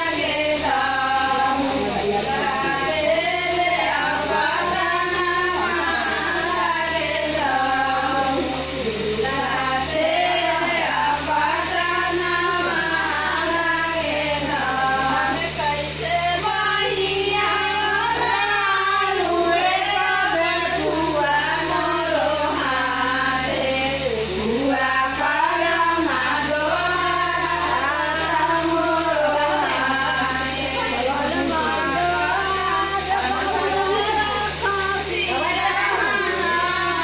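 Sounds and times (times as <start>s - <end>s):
steady low hum: 0.0s - 37.0s
women singing: 0.0s - 37.0s.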